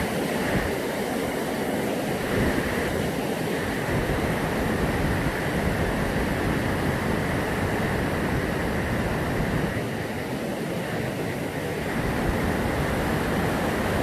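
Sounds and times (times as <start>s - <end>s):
waterfall rushing over rock: 0.0s - 14.0s.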